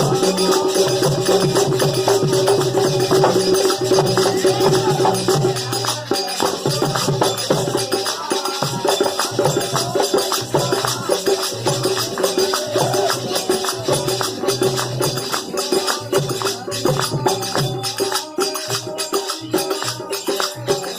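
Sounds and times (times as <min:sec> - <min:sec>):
jingling hand percussion: 0:00.0 - 0:20.9.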